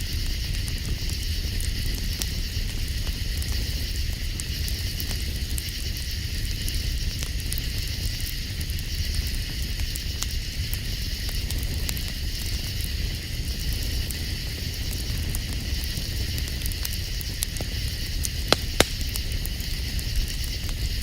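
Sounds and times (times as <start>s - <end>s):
campfire crackling and popping: 0.0s - 21.0s
night insects chorus: 0.0s - 21.0s.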